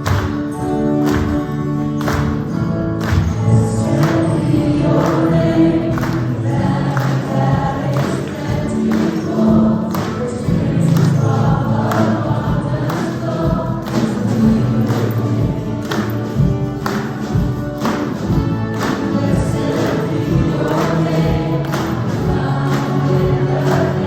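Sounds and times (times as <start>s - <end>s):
choir singing gospel song: 3.3s - 24.0s.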